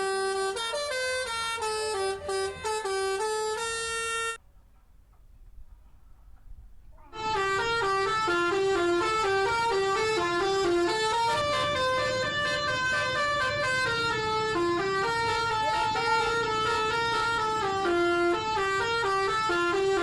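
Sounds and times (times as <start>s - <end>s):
musical bus horn playing a tune: 0.0s - 4.4s, 7.1s - 20.0s.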